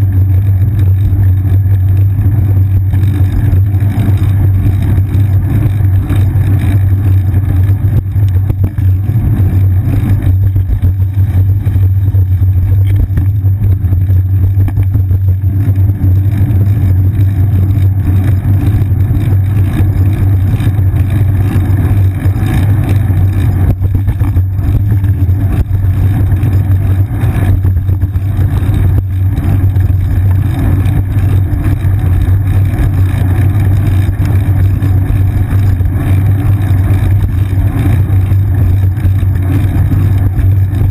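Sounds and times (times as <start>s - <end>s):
bicycle ride vibration rumble: 0.0s - 40.9s
wind buffeting a camera: 0.0s - 40.9s.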